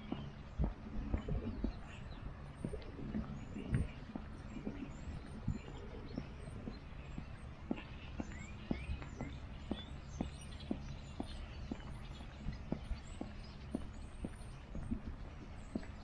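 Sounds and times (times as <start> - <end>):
birds chirping: 0.0 - 16.0
footsteps on concrete: 0.0 - 16.0.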